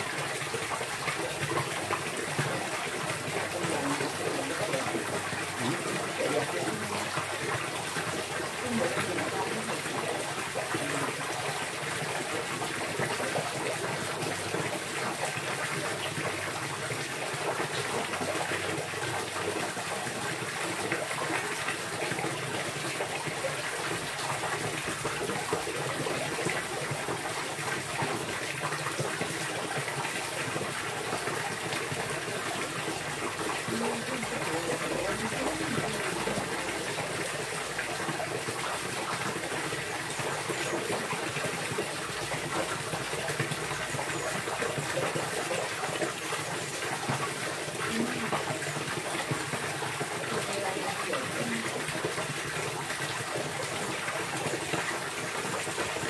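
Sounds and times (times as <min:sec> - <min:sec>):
water rushing and splashing: 0:00.0 - 0:56.0.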